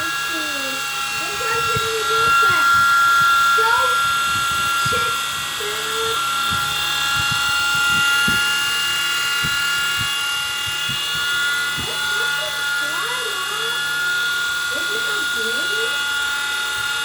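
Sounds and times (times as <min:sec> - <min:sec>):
model helicopter motor whine: 0:00.0 - 0:17.0.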